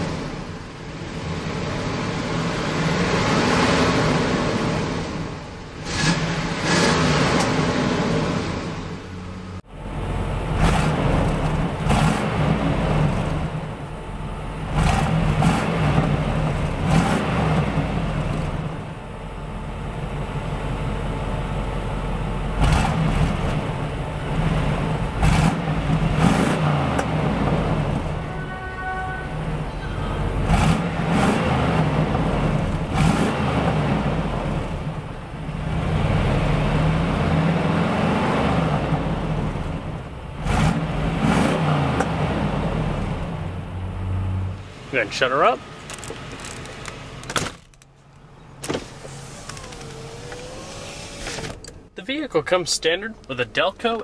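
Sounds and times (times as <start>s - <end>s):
car exhaust rumbling and revving: 0.0s - 52.0s.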